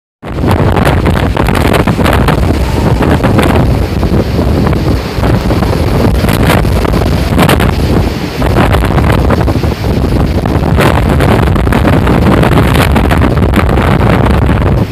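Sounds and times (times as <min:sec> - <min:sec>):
strong wind buffeting microphone: 0:00.2 - 0:14.9.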